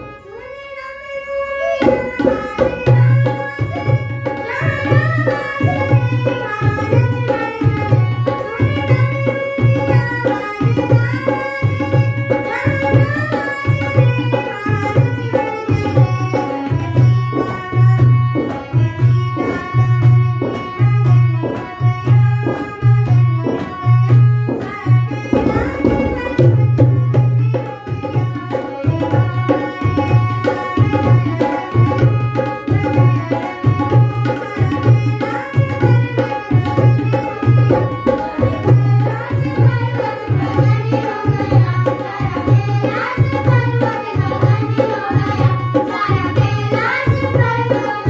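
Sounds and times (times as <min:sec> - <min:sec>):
harmonium tones: 0:00.0 - 0:48.0
hand drums steady beat: 0:01.8 - 0:48.0.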